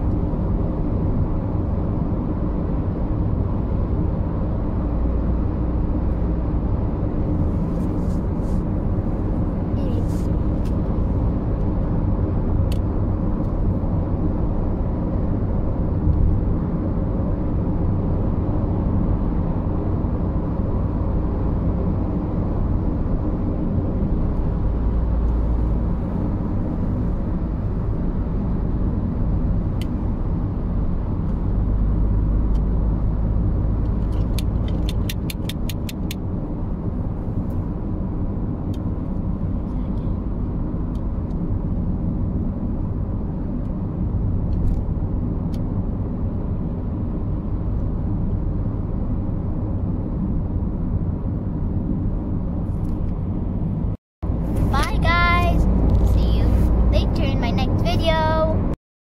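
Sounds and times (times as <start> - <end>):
car cabin road rumble: 0.0 - 58.8.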